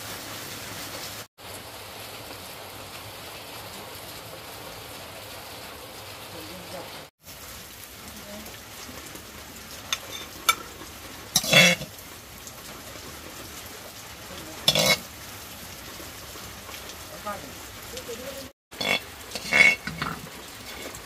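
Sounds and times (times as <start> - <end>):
food sizzling in a pan: 0.0 - 1.6, 5.6 - 21.0.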